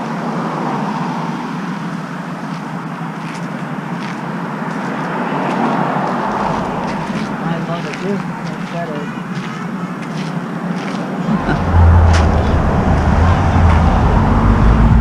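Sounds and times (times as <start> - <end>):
car driving road noise: 0.0 - 15.0.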